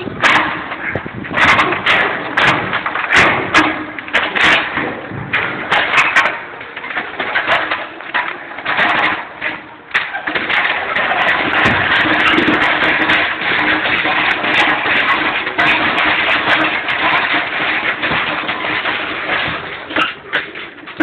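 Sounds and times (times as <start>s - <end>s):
pallets knocking and clattering: 0.0s - 21.0s
rough steady noise: 0.0s - 21.0s.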